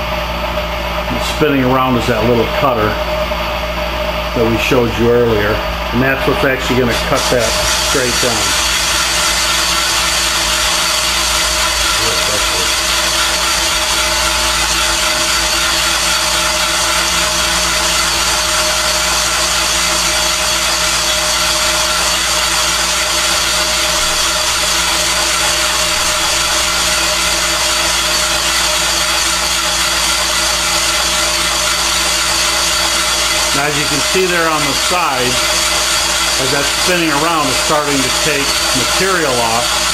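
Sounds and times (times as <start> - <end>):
boring bar whining: 0.0 - 39.9.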